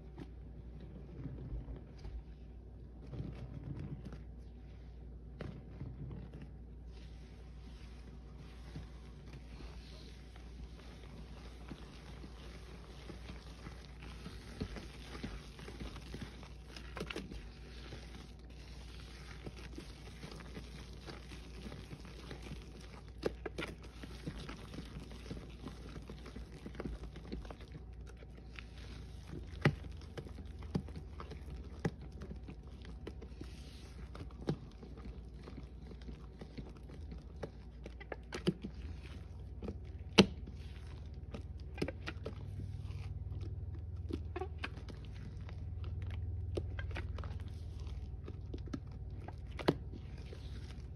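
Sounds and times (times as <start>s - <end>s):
gloved hand squishing thick paste: 0.0s - 50.9s
soft crunching and squelching: 0.0s - 50.9s.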